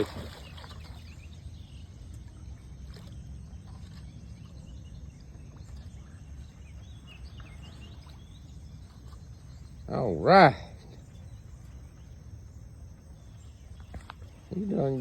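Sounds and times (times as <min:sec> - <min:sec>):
low rumble of open-air noise: 0:00.0 - 0:15.0.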